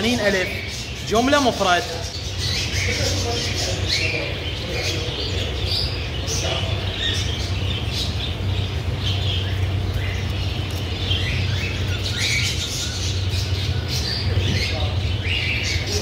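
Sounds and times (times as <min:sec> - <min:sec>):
cockatiels squawking and chirping: 0:00.0 - 0:16.0
steady low hum: 0:00.0 - 0:16.0.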